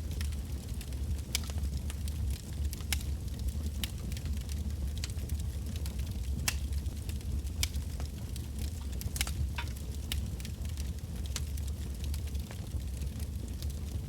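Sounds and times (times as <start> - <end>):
crackles and pops of burning logs: 0.0 - 14.0
low rumble of flames: 0.0 - 14.0.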